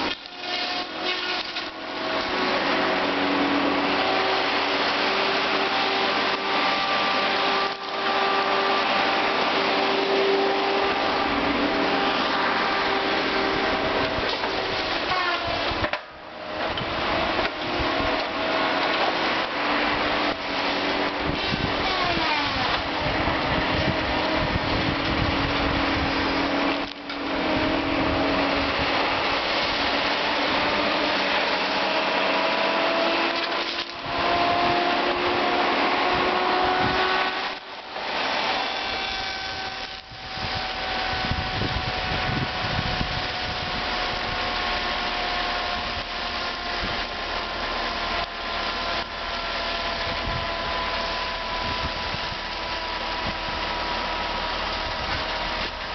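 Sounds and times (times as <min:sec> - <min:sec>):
diesel engine and hydraulics: 0:00.0 - 0:55.9
faint whine sliding in pitch: 0:00.0 - 0:55.9.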